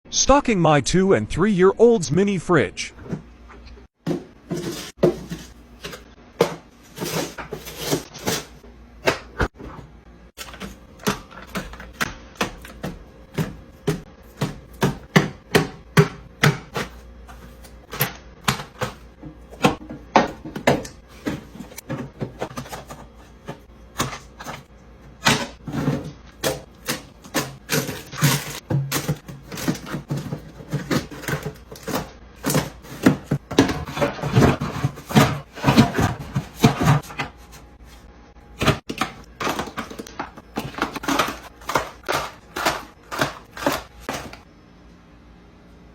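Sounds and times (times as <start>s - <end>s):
food containers clattering: 4.0s - 37.7s, 38.6s - 44.5s.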